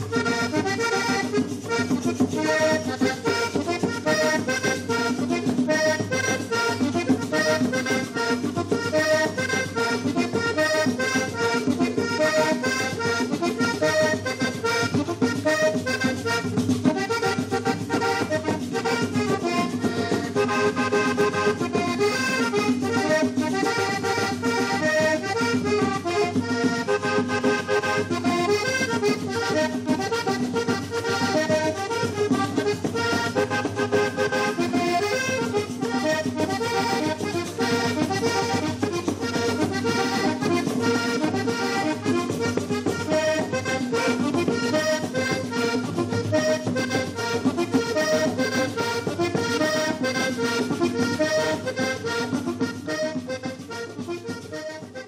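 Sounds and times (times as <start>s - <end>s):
accordion-led dance music: 0.0s - 55.0s.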